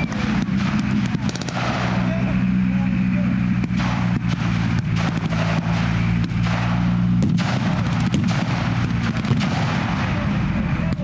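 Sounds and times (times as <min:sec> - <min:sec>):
blank gunfire and bangs: 0:00.0 - 0:02.3, 0:03.5 - 0:11.0
tank engine rumble: 0:00.0 - 0:11.0.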